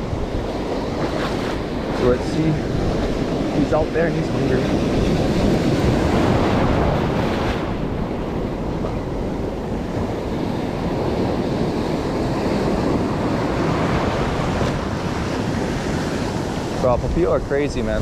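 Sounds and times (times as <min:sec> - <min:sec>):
ocean surf breaking over rocks: 0:00.0 - 0:18.0
wind buffeting microphone: 0:00.0 - 0:18.0.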